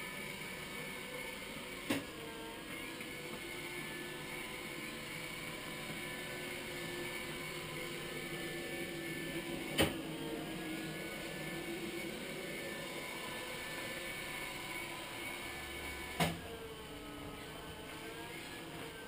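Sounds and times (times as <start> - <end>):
robot floor scrubber humming: 0.0 - 19.0.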